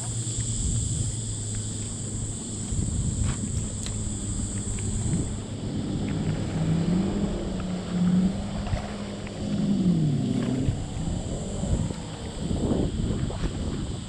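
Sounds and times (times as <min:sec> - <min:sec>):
boat engine running: 0:00.0 - 0:14.0
low wind rumble: 0:00.0 - 0:14.0.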